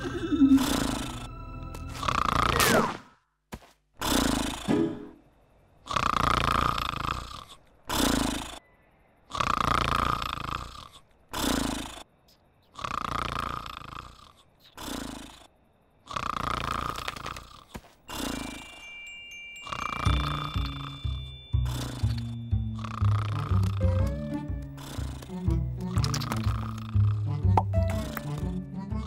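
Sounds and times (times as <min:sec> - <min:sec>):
cartoon snoring: 0:00.0 - 0:03.0, 0:04.0 - 0:04.8, 0:05.8 - 0:08.6, 0:09.2 - 0:18.9, 0:19.6 - 0:29.0.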